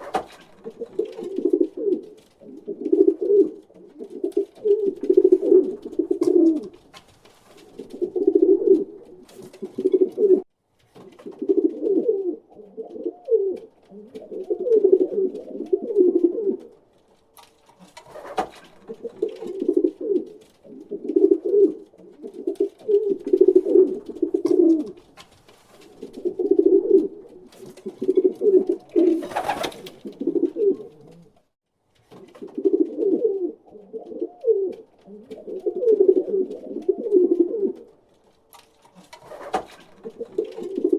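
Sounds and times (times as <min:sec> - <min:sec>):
pigeons cooing: 0:00.0 - 0:07.0, 0:07.7 - 0:10.5, 0:11.2 - 0:16.8, 0:17.8 - 0:25.1, 0:25.8 - 0:31.4, 0:32.3 - 0:38.0, 0:38.9 - 0:40.9.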